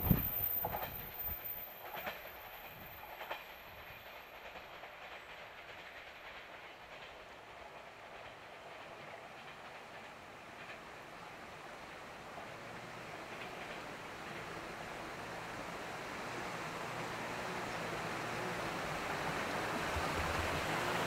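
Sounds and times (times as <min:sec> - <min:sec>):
electric train passing: 0:00.0 - 0:21.0
wheels clacking over rail joints: 0:00.0 - 0:21.0.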